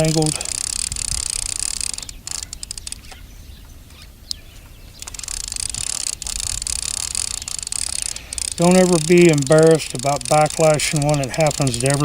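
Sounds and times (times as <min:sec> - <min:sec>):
fishing reel whirring: 0:00.0 - 0:03.2, 0:05.0 - 0:12.0
sharp tick: 0:00.0 - 0:03.2, 0:05.0 - 0:12.0.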